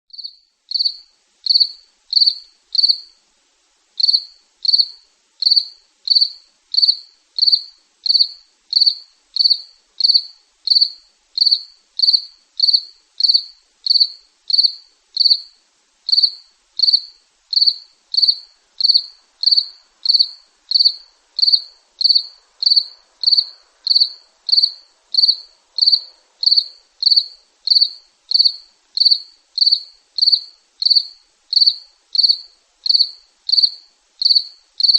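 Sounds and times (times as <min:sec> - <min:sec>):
cricket chirping: 0:00.1 - 0:03.2, 0:04.0 - 0:34.9.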